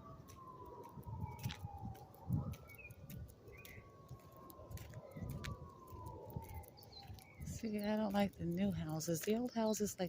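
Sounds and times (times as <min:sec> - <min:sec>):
birds chirping: 0:00.0 - 0:10.0
distant siren wailing: 0:00.0 - 0:10.0
footsteps on walkway: 0:00.0 - 0:10.0.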